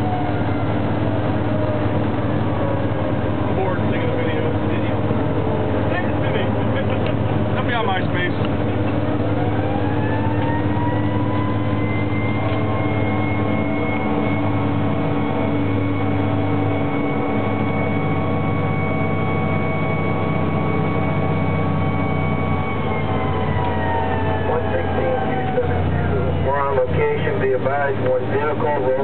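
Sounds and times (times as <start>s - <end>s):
fire engine siren: 0.0s - 29.0s
truck engine drone: 0.0s - 29.0s.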